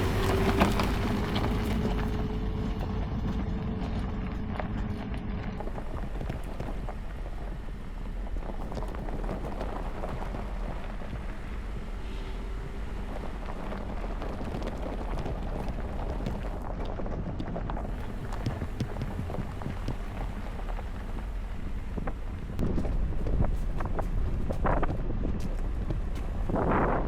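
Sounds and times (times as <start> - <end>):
tyres crunching gravel: 0.0 - 3.8, 5.6 - 27.0
low engine and road rumble: 0.0 - 27.0.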